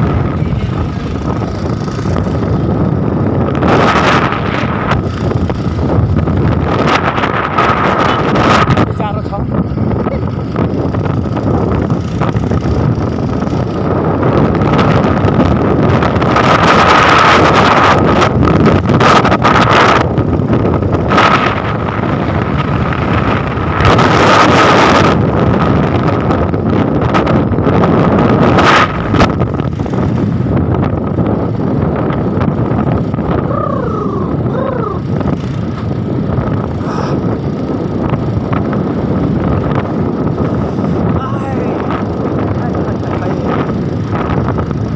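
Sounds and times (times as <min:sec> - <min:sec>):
motorcycle running: 0:00.0 - 0:44.9
road noise: 0:00.0 - 0:44.9
street traffic: 0:00.0 - 0:44.9
wind buffeting microphone: 0:00.0 - 0:44.9.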